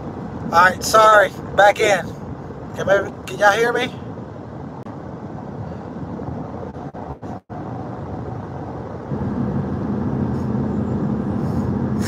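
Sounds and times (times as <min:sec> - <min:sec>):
car road and engine noise: 0:00.0 - 0:12.0
low engine drone: 0:00.0 - 0:12.0.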